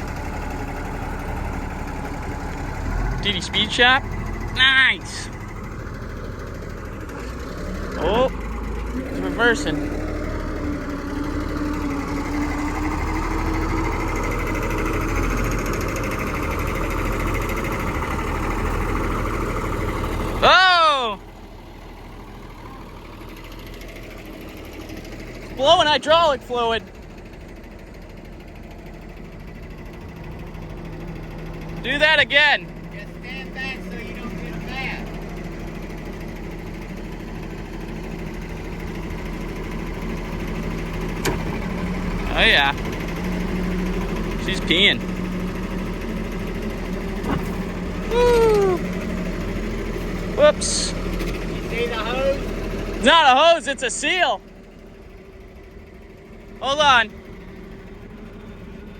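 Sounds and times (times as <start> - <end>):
diesel engine clattering: 0.0 - 58.9.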